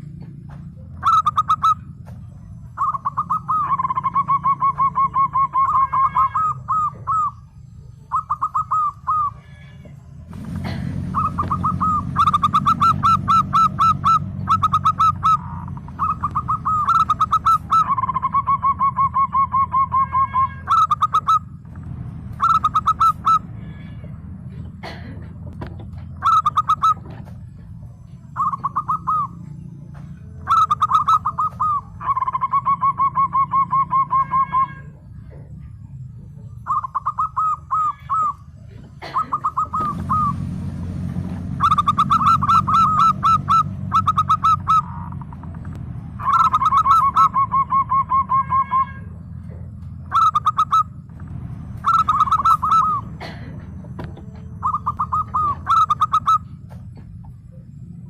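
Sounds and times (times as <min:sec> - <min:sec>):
dove cooing: 0:00.0 - 0:58.0
low hum: 0:00.0 - 0:58.0.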